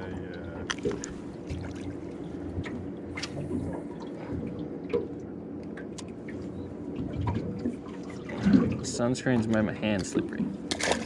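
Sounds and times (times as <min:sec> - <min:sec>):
steady low rumble: 0:00.0 - 0:11.0
water dripping and splashing: 0:00.0 - 0:11.0.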